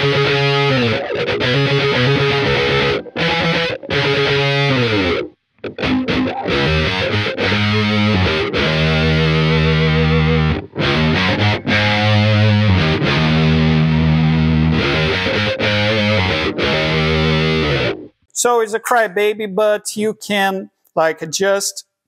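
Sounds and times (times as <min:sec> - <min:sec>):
electric bass riff with wah: 0:00.0 - 0:18.1.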